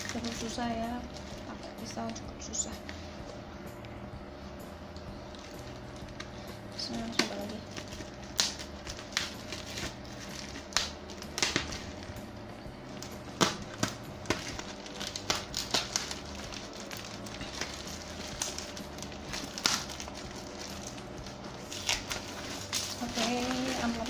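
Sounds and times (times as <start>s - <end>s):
plastic wrapping crinkling and tearing: 0.0s - 2.6s, 5.2s - 12.2s, 12.9s - 24.0s.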